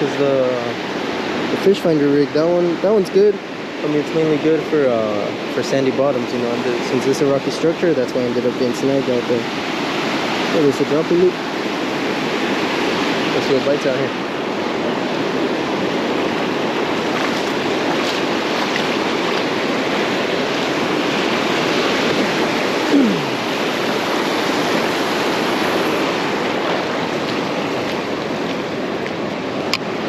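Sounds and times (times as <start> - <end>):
waves breaking on beach: 0.0 - 30.0.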